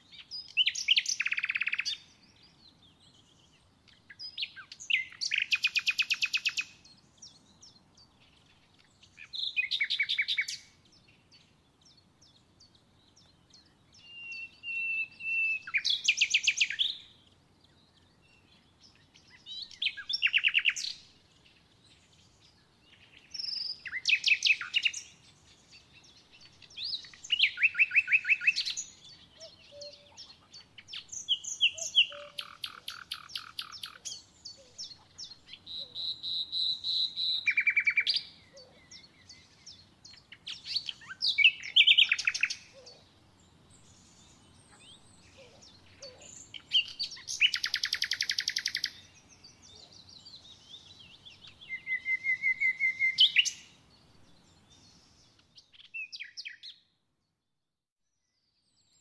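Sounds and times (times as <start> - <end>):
songbird singing trilled notes: 0.0 - 56.9.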